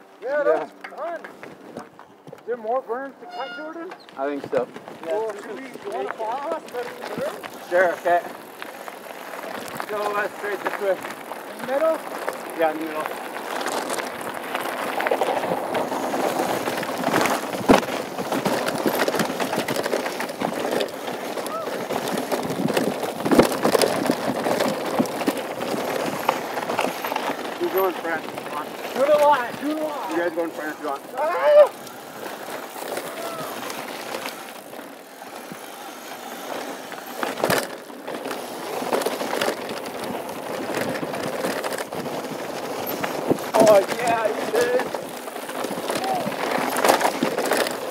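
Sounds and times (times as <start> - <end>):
bike rattling over stones: 0.0 - 47.9
bike tyres crunching on gravel: 0.0 - 47.9.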